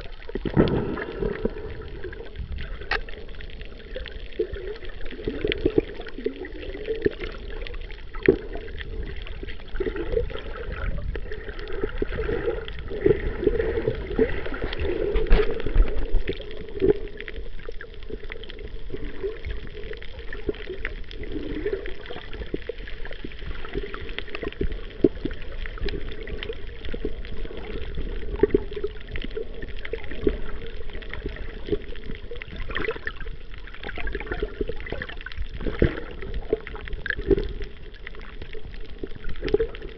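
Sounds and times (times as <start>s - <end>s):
small clicks and pops: 0.0s - 11.7s, 14.0s - 39.9s
muffled underwater water gurgling: 0.0s - 39.9s.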